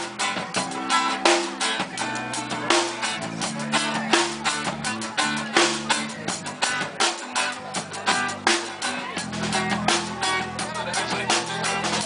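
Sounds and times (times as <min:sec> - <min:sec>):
drum kit beat: 0:00.0 - 0:12.0
guitars: 0:00.0 - 0:12.0.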